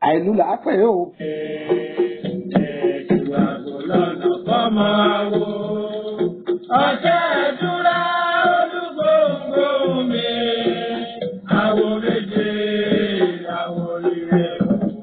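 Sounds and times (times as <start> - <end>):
chanted singing: 1.2 - 15.0
music: 1.2 - 15.0.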